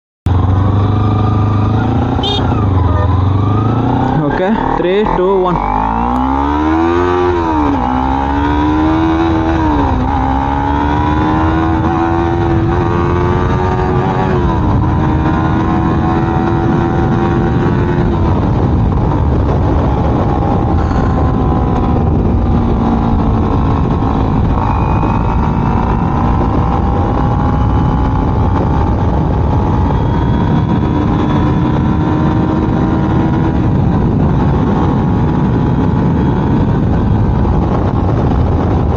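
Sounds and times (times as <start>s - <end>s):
motorcycle engine running: 0.3s - 38.9s.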